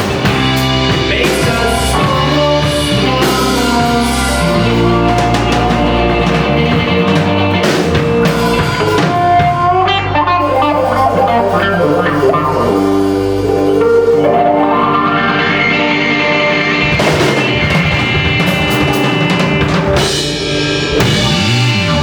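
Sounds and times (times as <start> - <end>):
drum kit: 0.0 - 22.0
electric guitar: 0.0 - 22.0.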